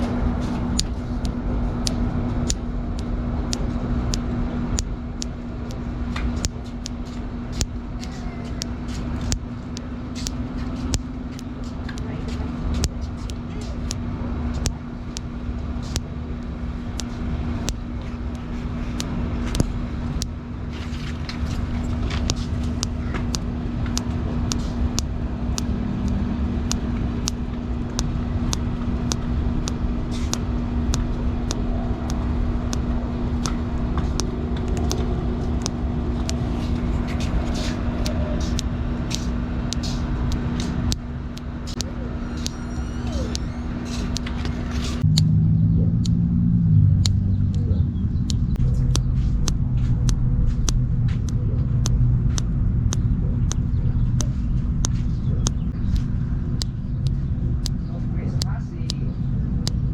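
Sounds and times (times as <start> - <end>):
thumb joints cracking: 0.0 - 59.0
low rumble and hum: 0.0 - 59.9.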